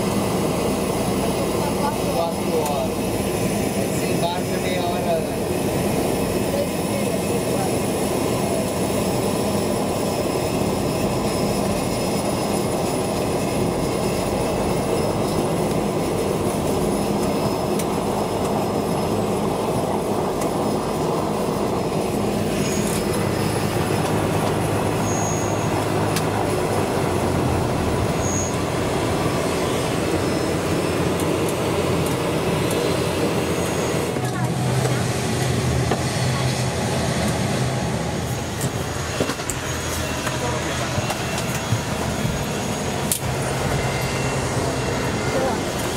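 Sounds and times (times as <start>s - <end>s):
turboprop engine rumble: 0.0s - 45.9s.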